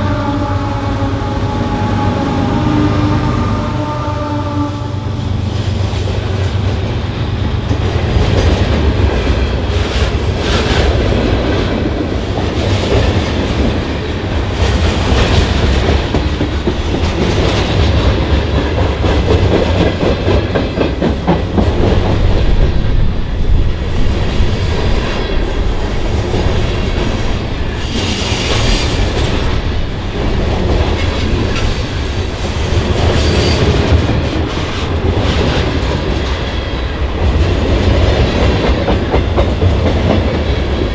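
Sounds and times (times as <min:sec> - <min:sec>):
freight train rumbling past: 0:00.0 - 0:40.9
wheels clacking over rail joints: 0:05.8 - 0:40.9.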